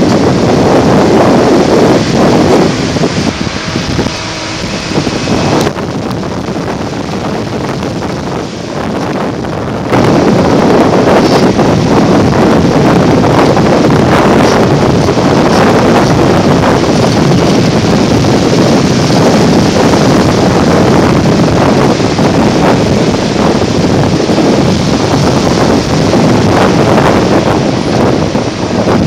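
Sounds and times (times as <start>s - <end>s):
breaking surf: 0.0s - 29.0s
wind buffeting microphone: 0.0s - 29.0s.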